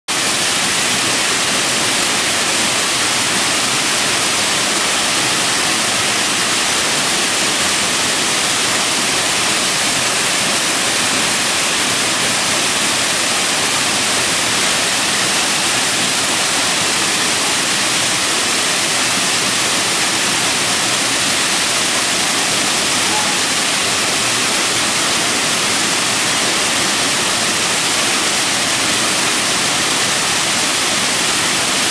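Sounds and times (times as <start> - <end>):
waterfall rushing: 0.1 - 31.9.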